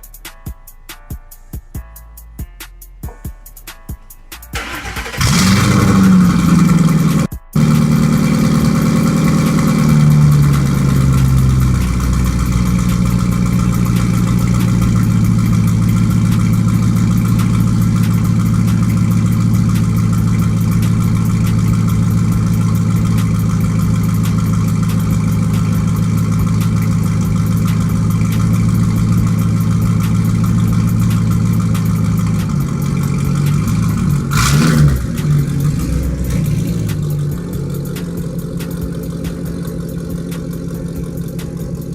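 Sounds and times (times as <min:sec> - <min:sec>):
loud car engine with open exhaust: 0:04.6 - 0:41.9.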